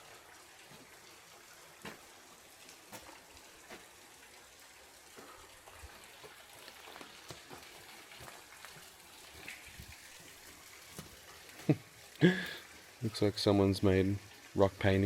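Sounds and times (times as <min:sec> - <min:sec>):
sharp water drips: 0:00.0 - 0:15.0
water trickling off rock: 0:00.0 - 0:15.0.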